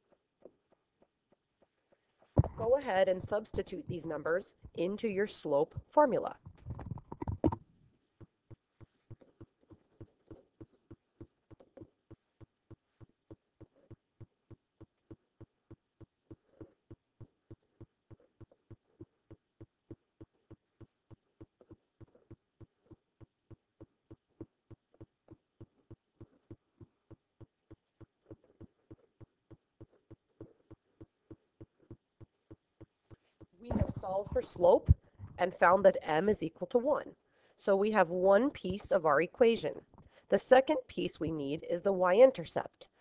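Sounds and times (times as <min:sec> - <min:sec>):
faint evenly spaced clicks: 0:00.0 - 0:43.0.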